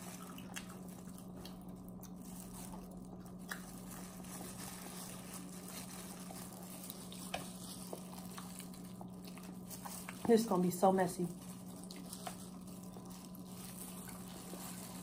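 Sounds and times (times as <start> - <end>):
chewing: 0.0 - 10.6, 11.3 - 15.0
steady low hum: 0.0 - 15.0.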